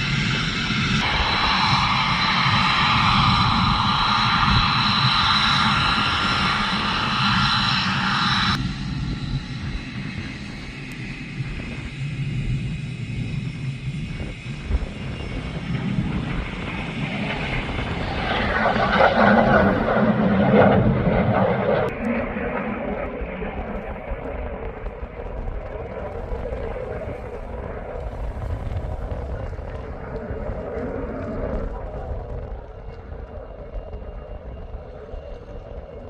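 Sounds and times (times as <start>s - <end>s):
jet engine roar and whine: 0.0s - 36.0s
low rumble: 0.0s - 36.0s.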